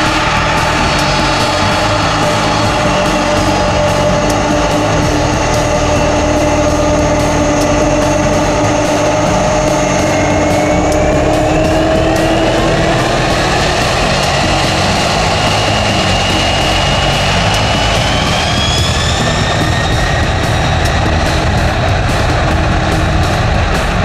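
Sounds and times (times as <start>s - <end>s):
aircraft engines droning: 0.0s - 24.0s.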